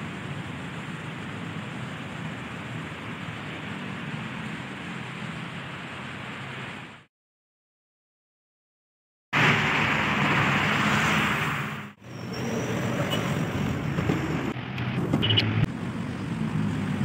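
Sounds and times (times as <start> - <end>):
street traffic: 0.0 - 7.1, 9.3 - 17.0.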